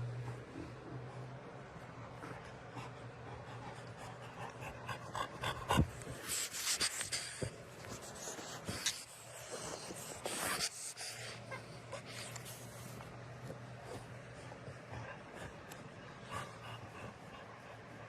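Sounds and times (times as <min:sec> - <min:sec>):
pet panting heavily: 0:00.3 - 0:18.0.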